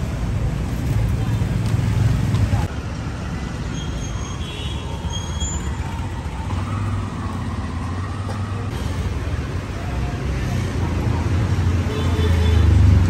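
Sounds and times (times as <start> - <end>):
traffic engines humming: 0.0 - 13.0.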